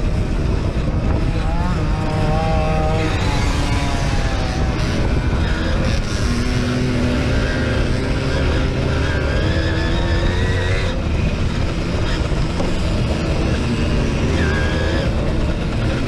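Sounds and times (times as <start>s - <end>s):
moped engine revving: 0.0s - 16.0s.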